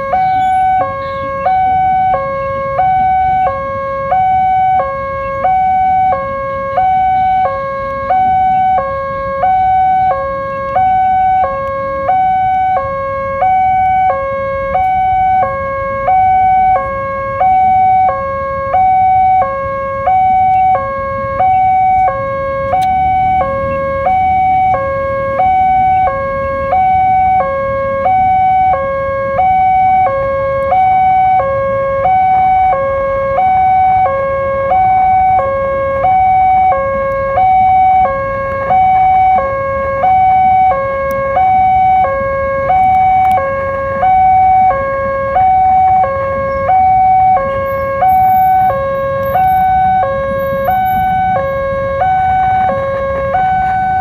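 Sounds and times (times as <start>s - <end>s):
two-tone level crossing alarm: 0.0s - 54.0s.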